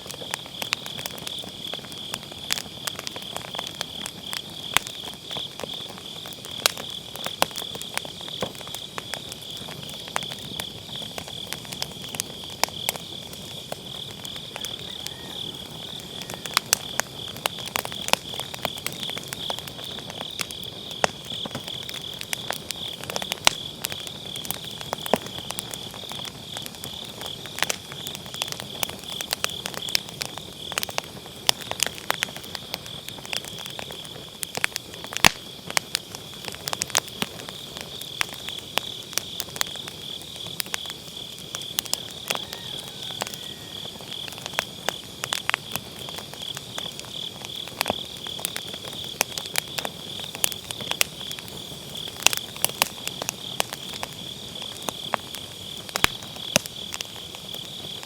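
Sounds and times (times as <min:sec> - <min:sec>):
firewood crackling and popping: 0:00.0 - 0:58.0
insects trilling: 0:00.0 - 0:58.0.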